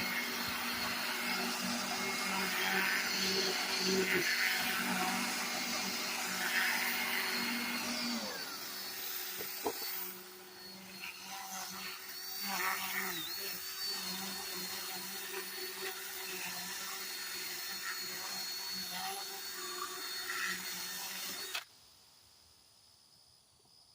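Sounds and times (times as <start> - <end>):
sanding wheel hissing on wood: 0.0 - 21.6
power tool motor whine: 0.0 - 21.7.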